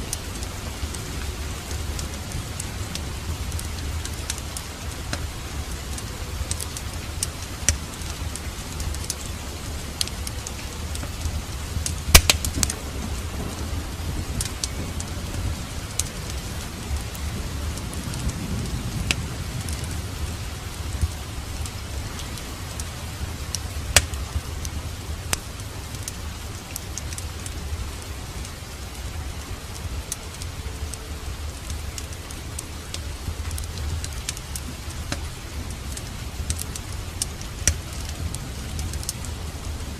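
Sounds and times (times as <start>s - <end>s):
steady rain falling: 0.0s - 39.9s
wood fire popping in fireplace: 0.0s - 39.9s.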